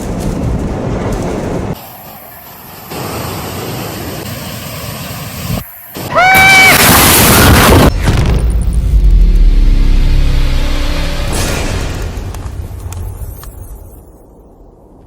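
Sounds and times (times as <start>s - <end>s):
storm wind and rain: 0.0s - 10.5s, 11.6s - 15.0s.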